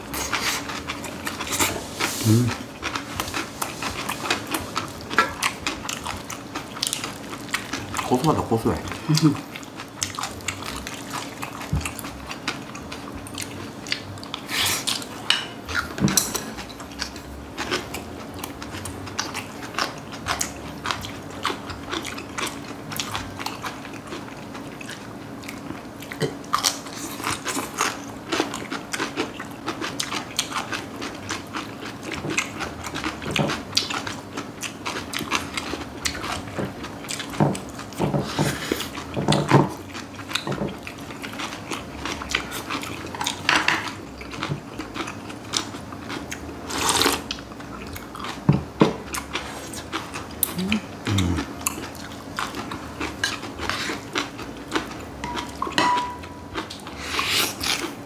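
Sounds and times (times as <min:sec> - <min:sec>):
crunchy chewing: 0:00.0 - 0:58.0
faint steady hum: 0:00.0 - 0:58.0.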